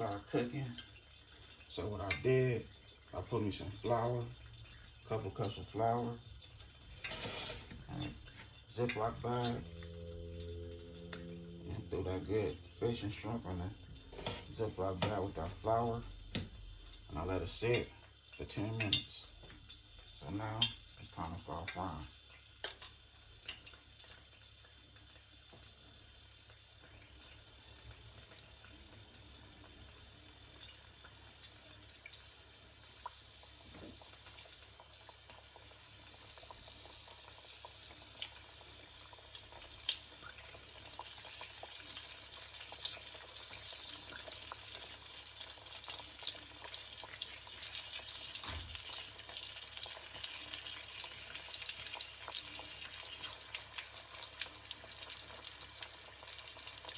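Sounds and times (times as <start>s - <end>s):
food sizzling in hot oil: 0.0s - 56.9s.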